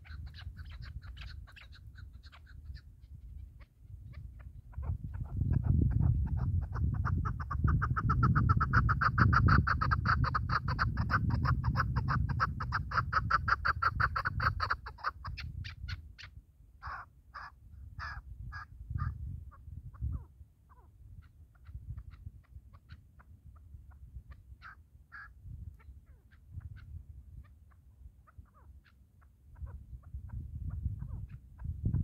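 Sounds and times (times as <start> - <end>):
partridge calling: 0.0 - 32.0.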